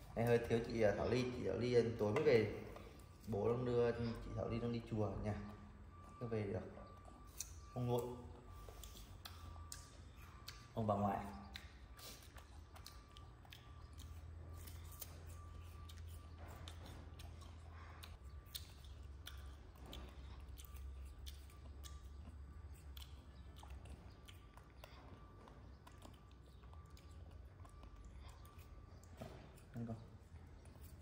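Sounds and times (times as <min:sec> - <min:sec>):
monkey chewing: 0:00.0 - 0:31.0.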